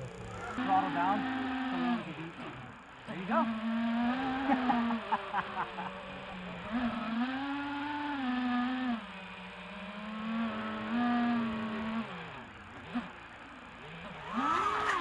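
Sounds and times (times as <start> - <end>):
quadcopter propellers buzzing: 0.0 - 15.0.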